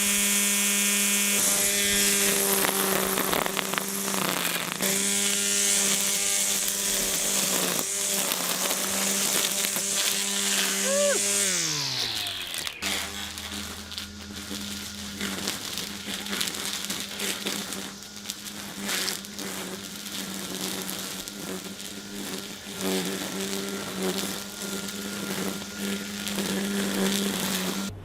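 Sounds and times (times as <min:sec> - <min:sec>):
hedge trimmer buzzing: 0:00.0 - 0:28.0
blades crackling through branches: 0:01.4 - 0:28.0.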